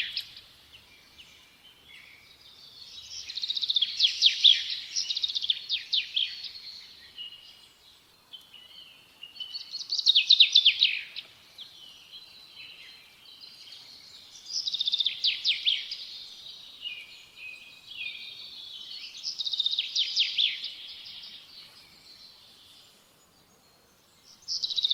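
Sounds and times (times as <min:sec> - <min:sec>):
songbird chirping and twittering: 0:00.0 - 0:24.9.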